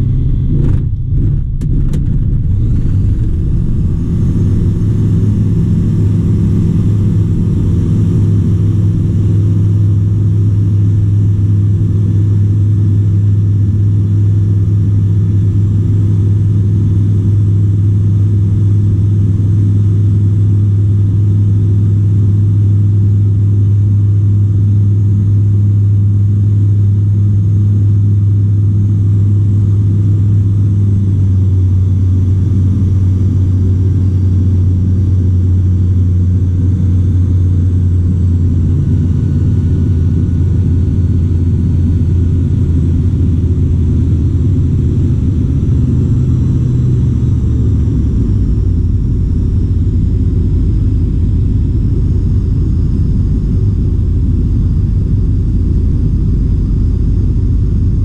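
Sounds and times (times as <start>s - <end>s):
propeller aircraft engine droning: 0.0s - 58.0s.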